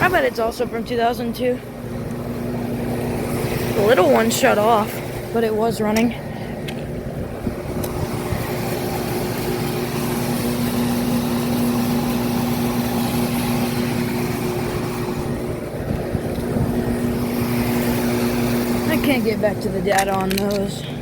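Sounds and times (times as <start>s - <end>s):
condenser fan whoosh: 0.0s - 19.9s
compressor electrical hum: 0.0s - 21.0s.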